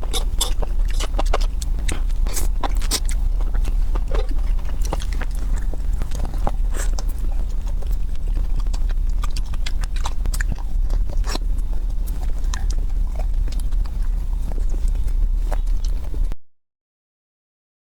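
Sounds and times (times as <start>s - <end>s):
chewing and mouth clicks: 0.0s - 16.3s
steady low hum: 0.0s - 16.4s.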